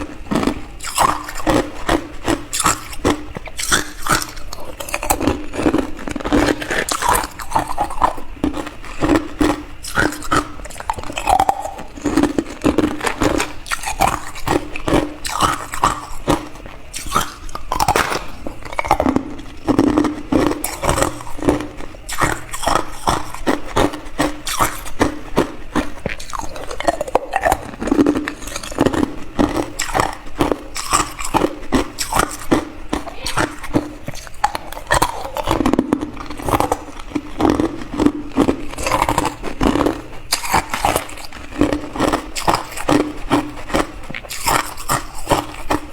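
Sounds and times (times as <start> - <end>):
ice being chewed: 0.0 - 45.9.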